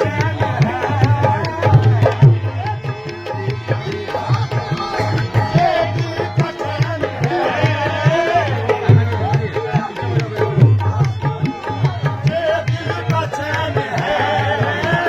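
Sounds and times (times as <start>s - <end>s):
hand drum fast rhythm: 0.0s - 15.0s.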